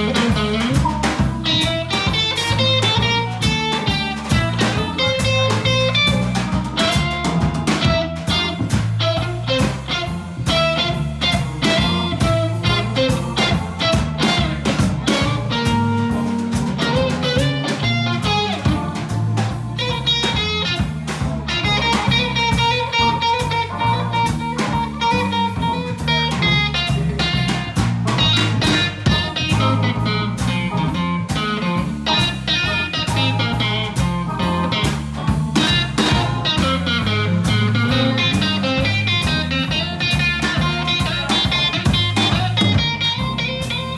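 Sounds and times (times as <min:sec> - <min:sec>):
drum kit beat: 0:00.0 - 0:43.9
electric guitar: 0:00.0 - 0:43.9.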